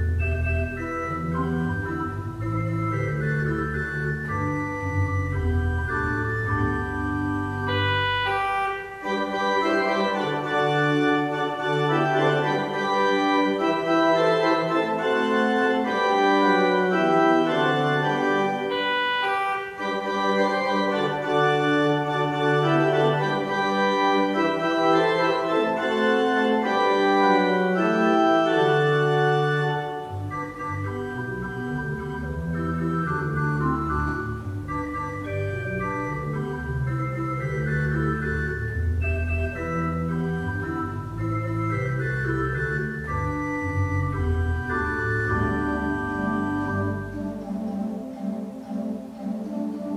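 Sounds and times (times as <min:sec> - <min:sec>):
organ music: 0:00.0 - 0:49.9.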